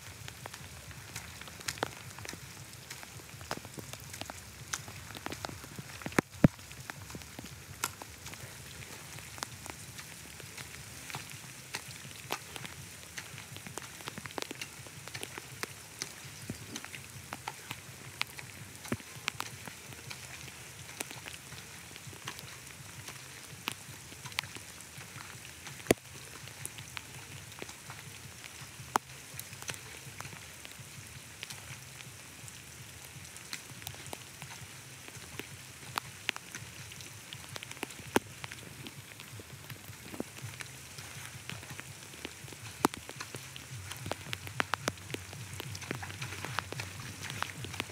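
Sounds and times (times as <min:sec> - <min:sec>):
water drops pattering: 0:00.0 - 0:47.9
water washing: 0:00.0 - 0:47.9.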